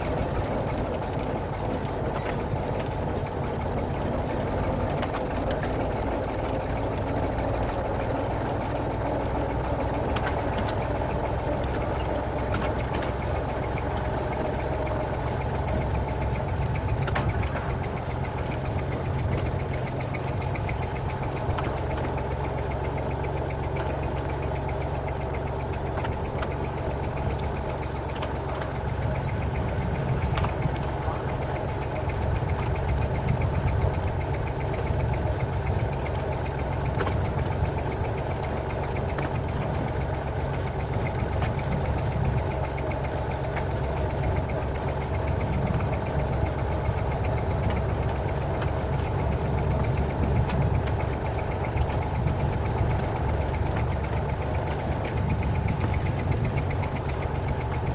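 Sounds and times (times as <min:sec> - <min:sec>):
train diesel engine running: 0:00.0 - 0:57.9
wheels clicking on rails: 0:00.0 - 0:57.9.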